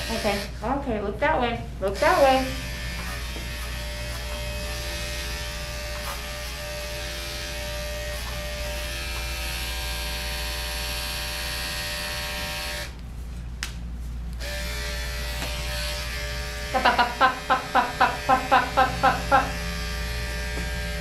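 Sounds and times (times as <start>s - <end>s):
electric pet clipper running: 0.0s - 0.6s, 1.9s - 13.0s, 14.4s - 21.0s.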